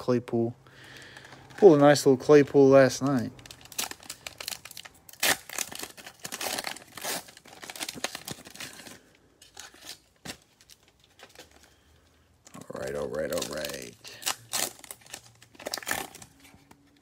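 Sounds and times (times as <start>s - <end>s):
foil wrappers crinkling and tearing: 0.8s - 16.7s.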